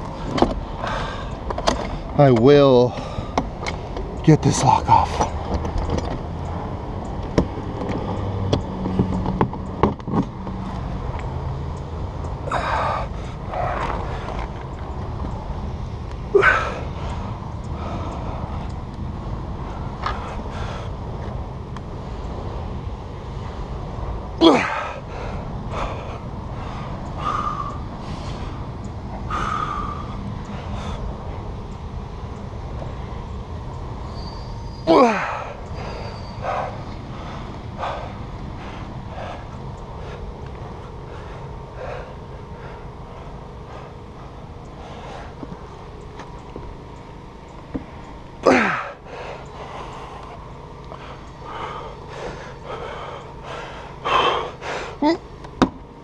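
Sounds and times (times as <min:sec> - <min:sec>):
man breathing heavily: 0:00.0 - 0:04.2, 0:10.8 - 0:56.0
steady low hum: 0:00.0 - 0:56.0
steady low rumble: 0:00.0 - 0:56.0.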